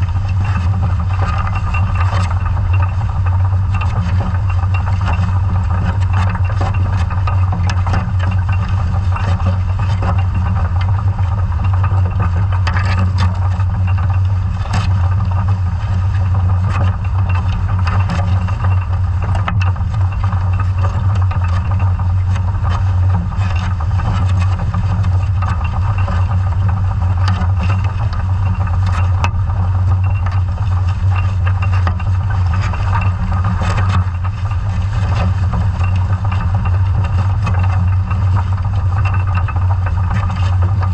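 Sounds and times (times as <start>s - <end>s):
underwater boat engine drone: 0.0s - 40.9s.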